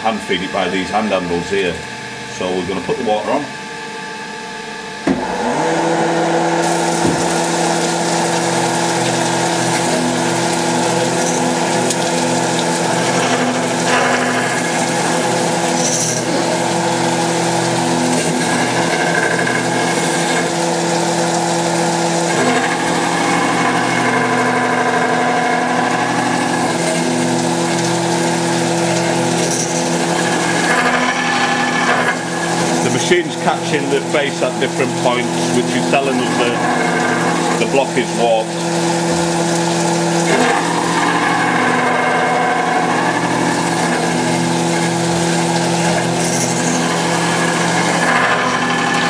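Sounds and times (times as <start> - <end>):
resurfacing machine motor hum: 0.0 - 49.0.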